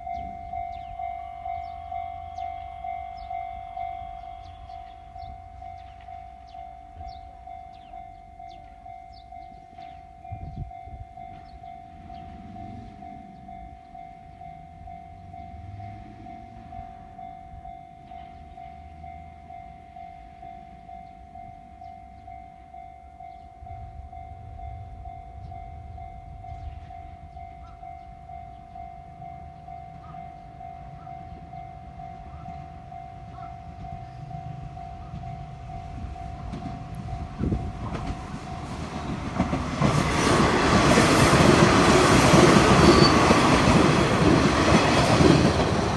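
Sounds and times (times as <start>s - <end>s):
level crossing bell ringing: 0.0s - 39.5s, 40.9s - 45.9s
train rumble: 0.0s - 45.9s.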